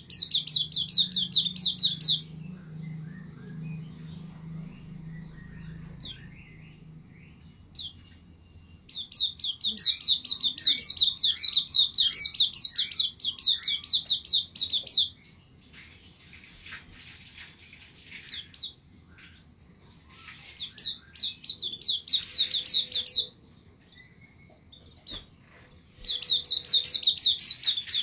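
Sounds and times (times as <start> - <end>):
bird singing rapid high notes: 0.0 - 15.6, 18.1 - 23.3, 26.0 - 28.0
soft bird twittering: 0.0 - 17.0, 17.8 - 28.0.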